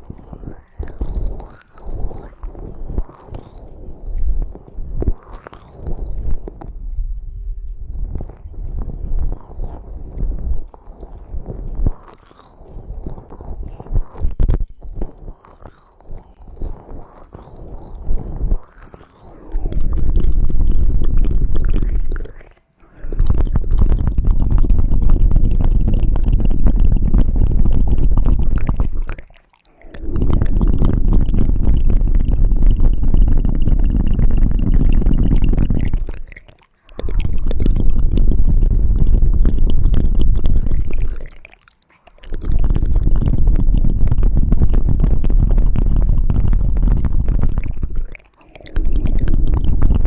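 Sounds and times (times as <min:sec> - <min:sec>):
ear cleaning crackling and scraping: 0:00.0 - 0:50.0.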